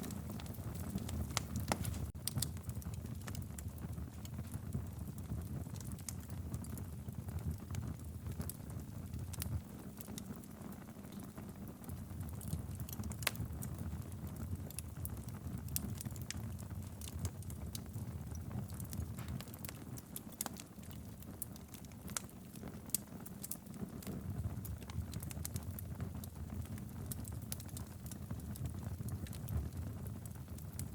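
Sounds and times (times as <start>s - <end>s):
low rumble of flame: 0.0s - 30.9s
wood fire crackling: 0.0s - 30.9s.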